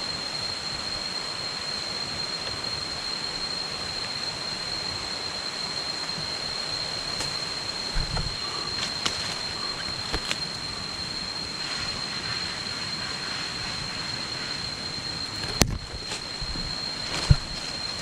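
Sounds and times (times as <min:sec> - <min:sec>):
steady high whine: 0:00.0 - 0:18.0.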